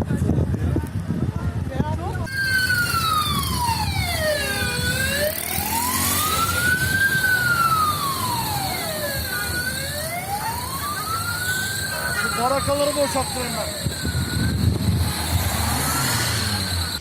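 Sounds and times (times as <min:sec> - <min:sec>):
emergency siren wailing: 0:02.3 - 0:17.0.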